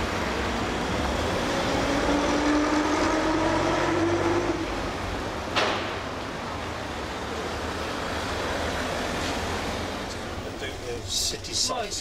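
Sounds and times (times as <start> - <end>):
bus driving past with whine: 0.0 - 10.9.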